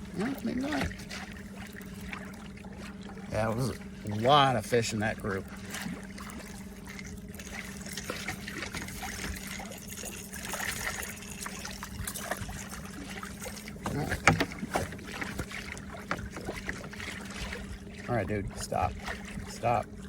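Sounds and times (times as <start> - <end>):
boat motor humming: 0.0 - 20.0
water lapping against hull: 0.0 - 20.0.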